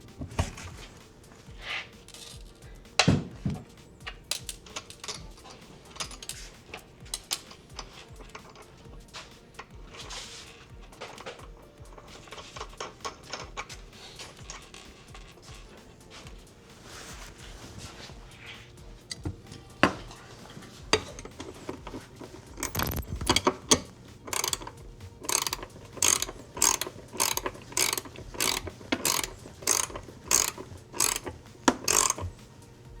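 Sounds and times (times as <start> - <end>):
ratchet clicking: 0.0 - 33.0
metal parts knocking and clanking: 1.6 - 16.5, 18.1 - 32.5.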